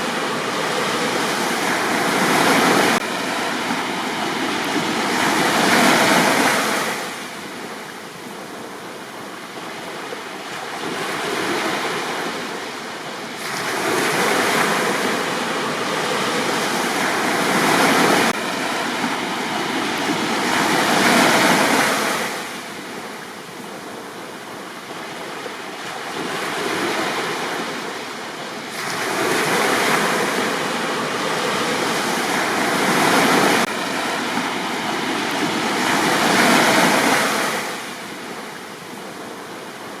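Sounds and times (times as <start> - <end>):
sea waves breaking on beach: 0.0 - 40.0.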